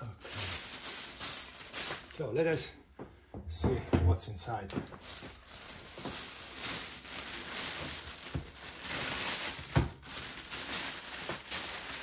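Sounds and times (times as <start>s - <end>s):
plastic bag crinkling: 0.0s - 2.7s, 4.8s - 12.0s.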